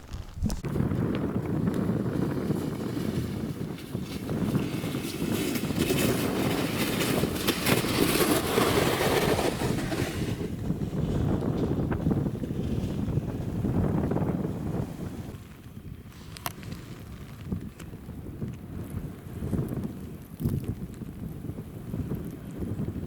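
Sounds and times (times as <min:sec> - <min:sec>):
blizzard wind buffeting microphone: 0:00.0 - 0:23.0.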